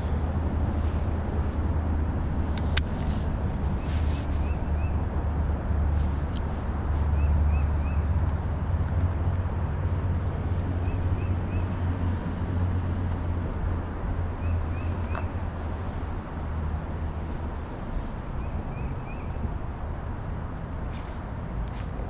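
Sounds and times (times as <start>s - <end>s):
low outdoor rumble and hiss: 0.0s - 22.0s.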